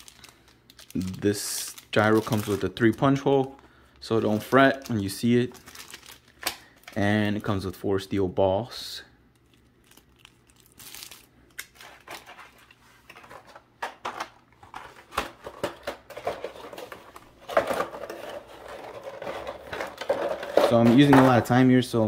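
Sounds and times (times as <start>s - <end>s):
plastic bags crinkling: 0.0s - 7.5s, 9.4s - 13.6s, 14.6s - 21.6s.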